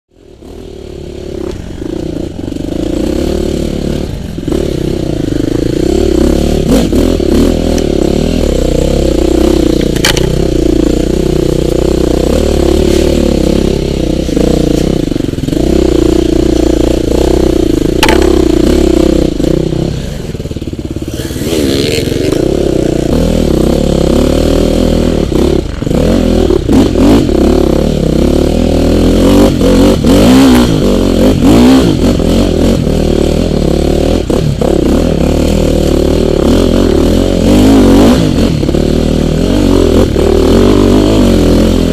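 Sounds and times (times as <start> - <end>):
dirt bike engine revving: 0.2 - 41.9.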